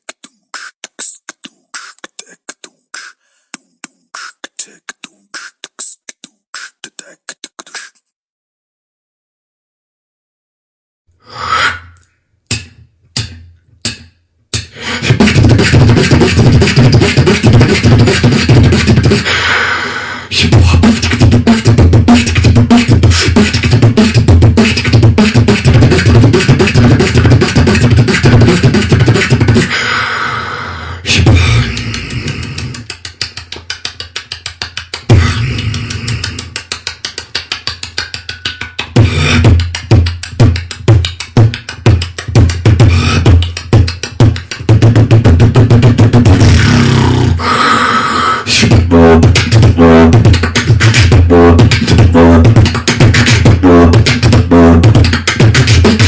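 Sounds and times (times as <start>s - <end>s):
person beatboxing: 0.0s - 8.1s, 11.2s - 56.0s.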